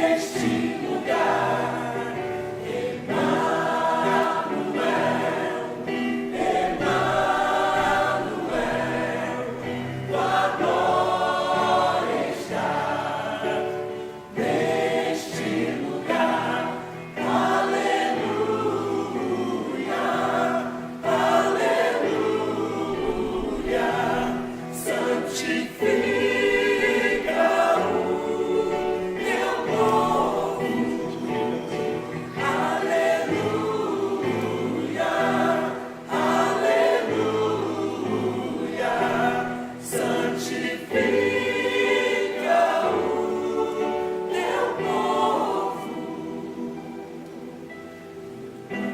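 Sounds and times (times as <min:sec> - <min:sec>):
church choir singing a hymn: 0:00.0 - 0:48.9.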